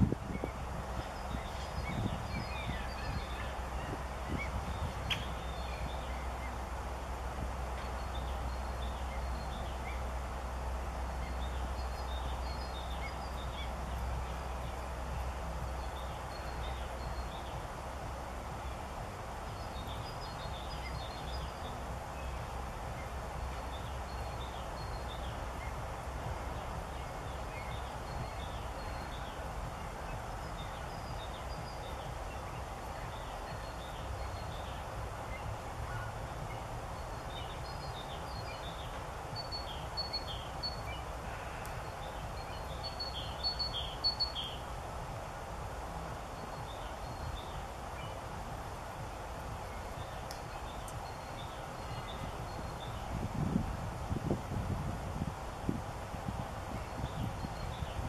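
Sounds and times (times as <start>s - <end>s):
low background rumble: 0.0s - 58.0s
small birds chirping: 0.0s - 58.0s.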